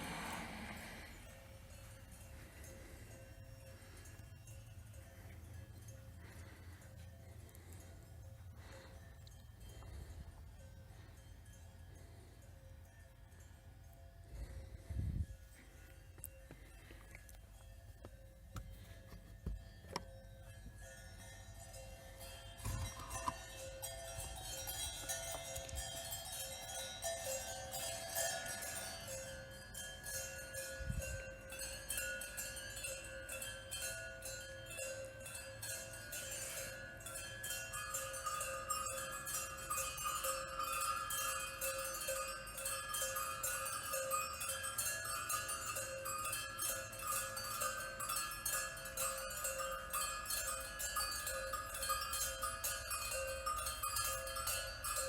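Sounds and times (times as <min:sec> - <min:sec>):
bell-like ringing tones: 0:00.0 - 0:55.0
rapid metallic tinkling: 0:00.0 - 0:55.0.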